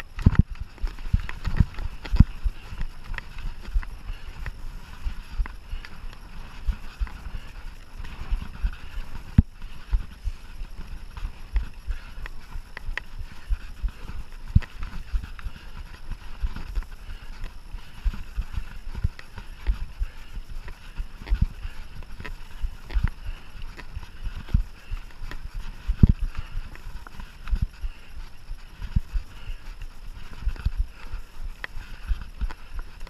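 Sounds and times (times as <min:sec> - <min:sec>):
bike clattering on rough trail: 0:00.0 - 0:33.0.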